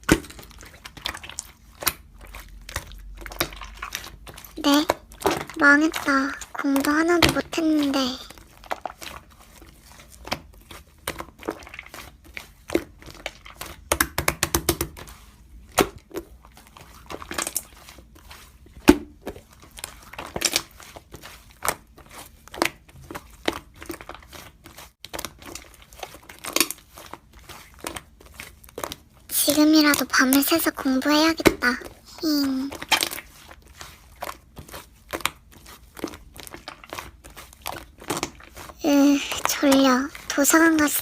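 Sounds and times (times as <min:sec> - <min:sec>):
slime squished by hand: 0:00.0 - 0:41.0.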